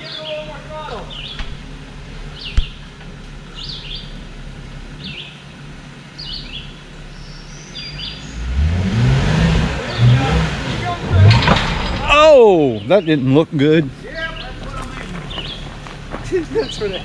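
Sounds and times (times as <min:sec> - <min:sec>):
engine idling: 0:00.0 - 0:17.0
songbird chirping: 0:00.0 - 0:17.0.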